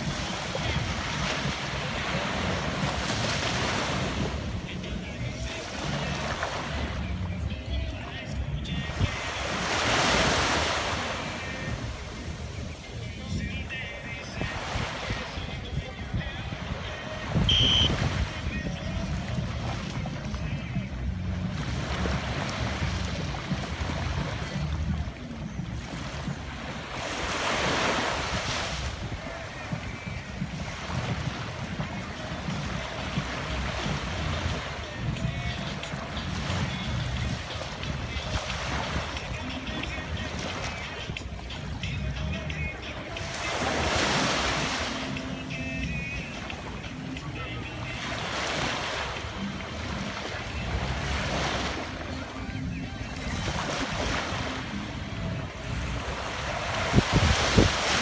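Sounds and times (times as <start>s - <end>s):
wind rumbling on microphone: 0.0s - 42.8s, 47.8s - 58.0s
ocean surf washing ashore: 0.0s - 58.0s.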